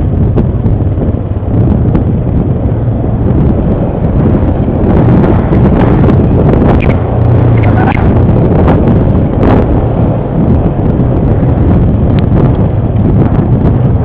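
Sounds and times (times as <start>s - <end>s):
atv engine running: 0.0s - 14.0s
wind buffeting microphone: 0.0s - 14.0s.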